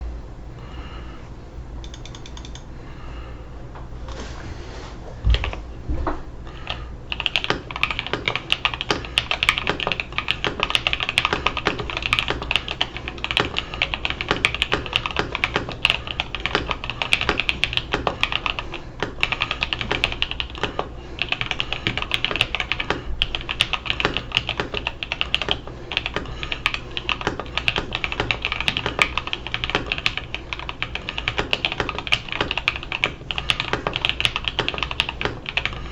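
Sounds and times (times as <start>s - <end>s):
mechanical keyboard typing: 1.8s - 2.7s, 6.6s - 35.9s.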